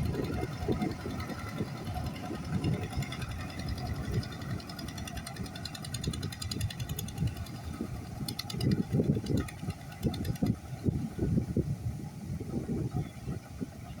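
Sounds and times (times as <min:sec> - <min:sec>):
engine running with ticking: 0:00.0 - 0:14.0.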